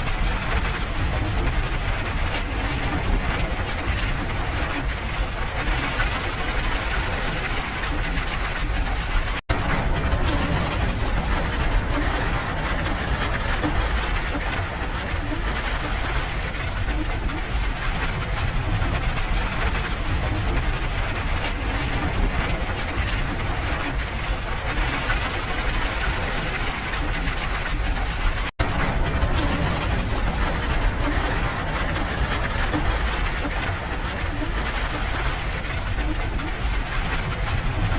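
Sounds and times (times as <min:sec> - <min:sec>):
low rumble: 0:00.0 - 0:37.9
rain pattering: 0:00.0 - 0:37.9.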